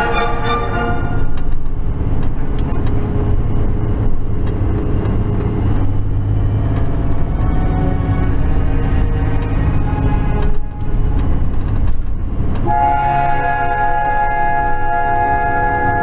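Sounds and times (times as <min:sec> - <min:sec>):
truck engine rumble from cab: 0:00.0 - 0:16.0.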